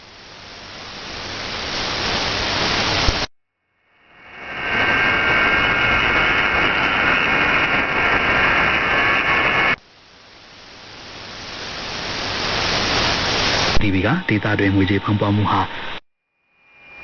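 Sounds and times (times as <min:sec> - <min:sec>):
radio static hiss: 0:00.0 - 0:03.3, 0:04.0 - 0:16.0.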